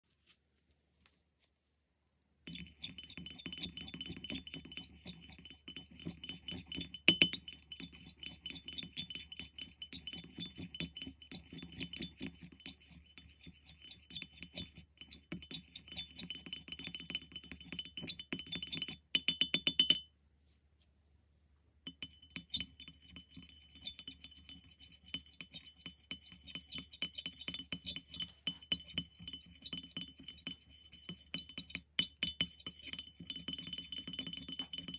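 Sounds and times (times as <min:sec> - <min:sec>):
rod clinking on ceramic palette: 0:02.5 - 0:20.1, 0:21.9 - 0:34.9.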